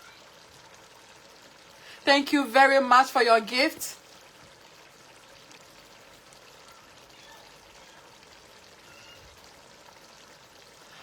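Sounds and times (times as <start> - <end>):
stew simmering in pot: 0.0 - 11.0.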